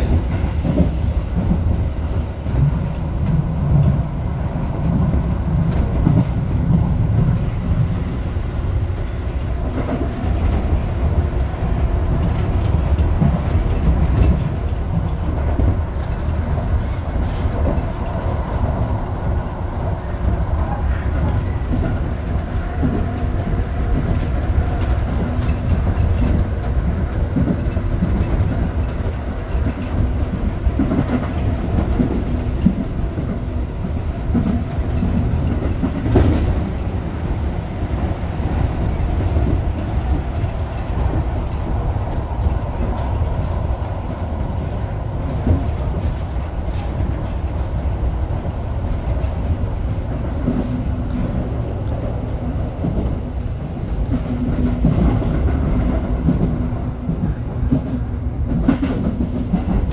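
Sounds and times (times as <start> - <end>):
rail joints clacking: 0.0 - 59.9
train wheels rumbling on rail: 0.0 - 59.9.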